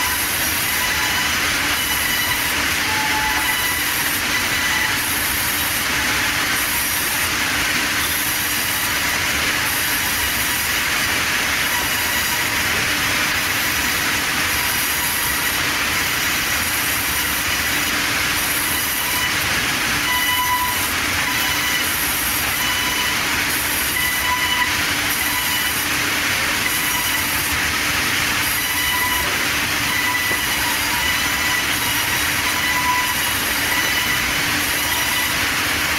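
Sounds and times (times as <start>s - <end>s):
band saw cutting wood: 0.0s - 35.9s.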